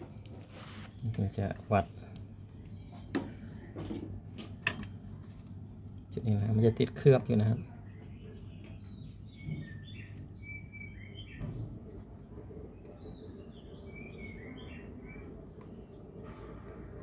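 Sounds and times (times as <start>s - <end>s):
small birds chirping: 0.1s - 3.9s, 4.9s - 17.0s.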